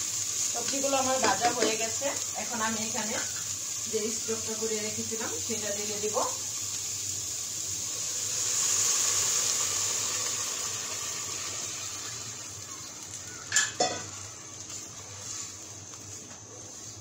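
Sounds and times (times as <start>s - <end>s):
stock hissing and sizzling in pan: 0.0s - 17.0s.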